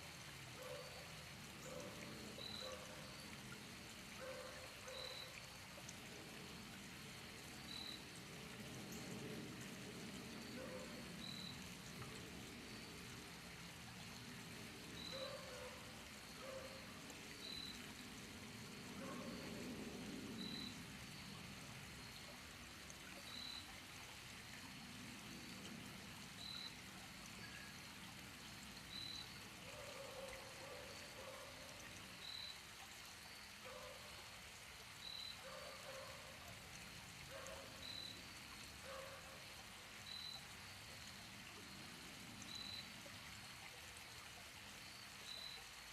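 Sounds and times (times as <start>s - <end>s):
trickling water: 0.0s - 45.9s.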